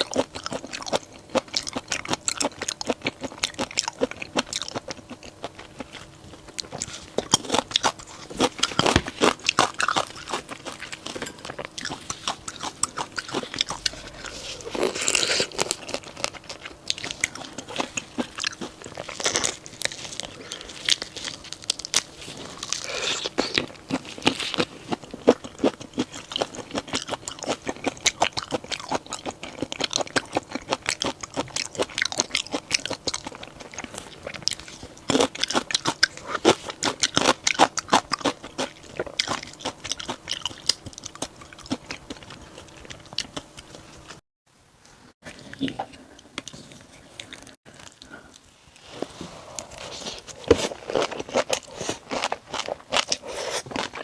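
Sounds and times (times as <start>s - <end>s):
person crunching and chewing shrimp: 0.0s - 44.2s, 49.6s - 54.0s.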